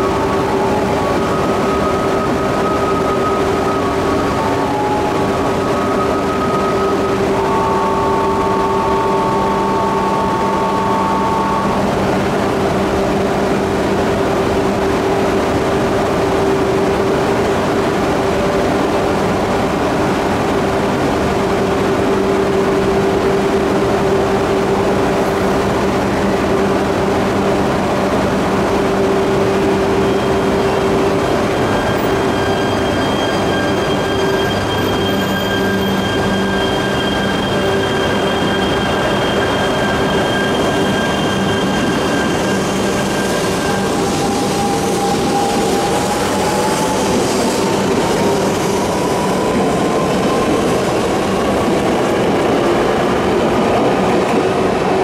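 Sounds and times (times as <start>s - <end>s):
high train whine: 0.0s - 55.0s
train equipment drone: 0.0s - 55.0s.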